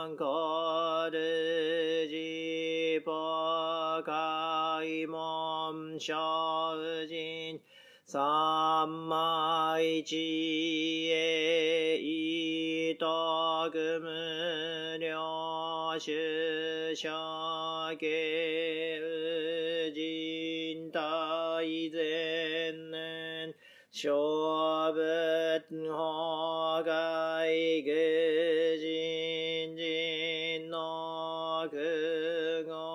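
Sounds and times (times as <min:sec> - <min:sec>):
person chanting in long tones: 0:00.0 - 0:32.9.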